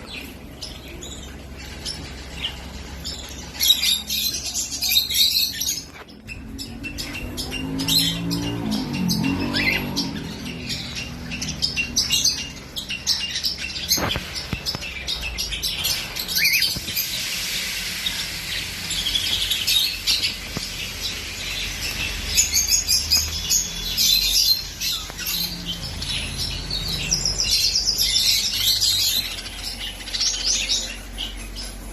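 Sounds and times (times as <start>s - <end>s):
parrots chirping and chattering: 0.0s - 31.9s.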